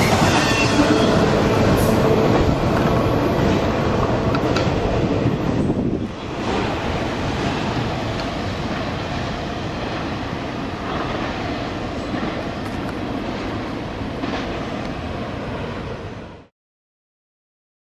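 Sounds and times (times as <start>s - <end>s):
freight train wheels rumbling: 0.0s - 16.4s.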